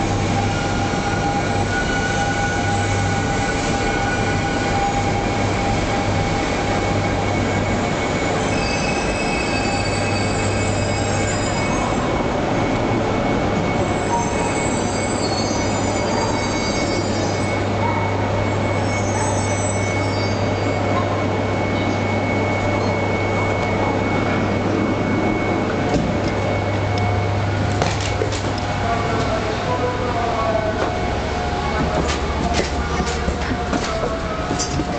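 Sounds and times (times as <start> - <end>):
train rolling rush: 0.0 - 34.9.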